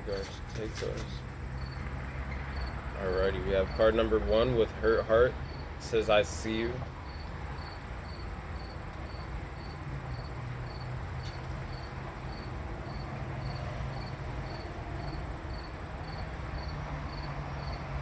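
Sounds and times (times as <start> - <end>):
cricket chirping: 0.8 - 18.0.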